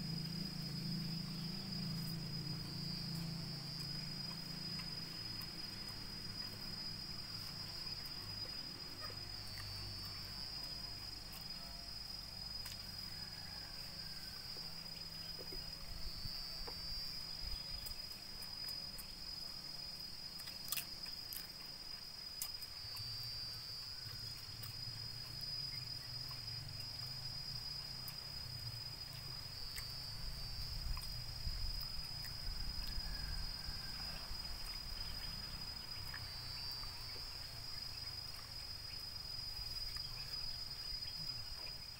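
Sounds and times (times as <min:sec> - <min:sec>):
insects trilling: 0:00.0 - 0:41.9
low steady hum: 0:00.0 - 0:41.9.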